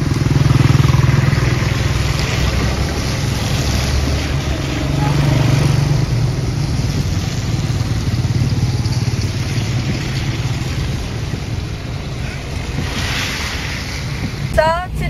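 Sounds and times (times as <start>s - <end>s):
cars passing on wet road: 0.0s - 15.0s
vehicle engines running: 0.0s - 15.0s.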